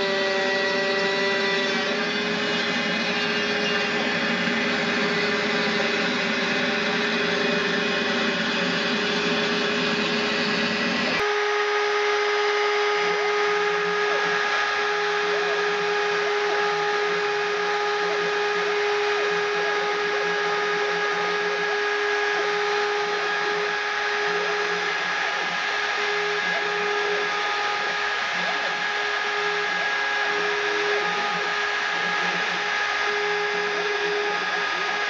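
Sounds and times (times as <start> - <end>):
spindle motor whine: 0.0 - 35.0.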